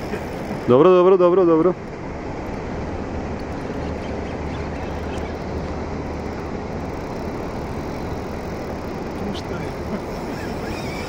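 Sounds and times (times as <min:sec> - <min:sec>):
outboard motor running: 0:00.0 - 0:11.0
rushing water noise: 0:00.0 - 0:11.0.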